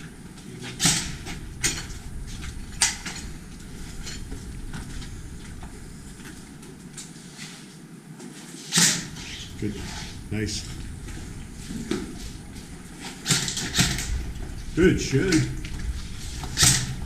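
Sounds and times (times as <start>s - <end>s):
rustle of person moving: 0.0s - 17.0s.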